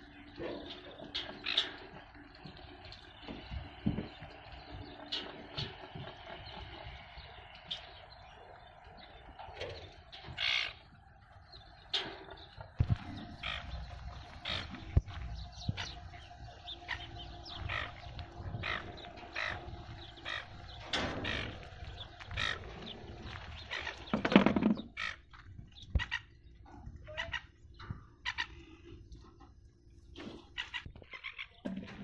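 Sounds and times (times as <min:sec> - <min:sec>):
birds calling: 0:00.0 - 0:32.0.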